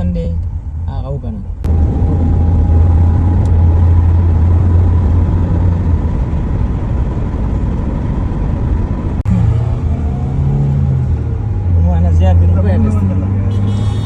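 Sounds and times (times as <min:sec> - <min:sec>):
vehicle rumble from inside: 0:00.0 - 0:14.0.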